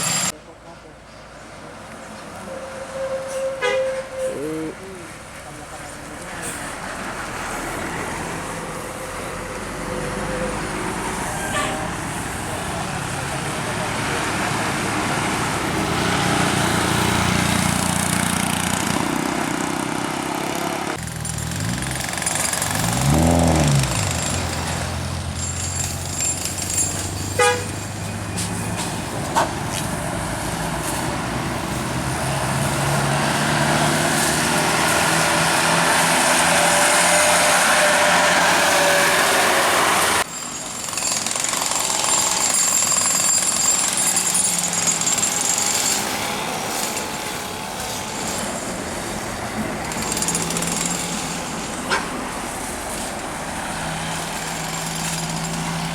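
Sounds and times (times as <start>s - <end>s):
bus engines rumbling: 0.0s - 40.8s, 41.6s - 55.9s
road noise: 0.0s - 55.9s.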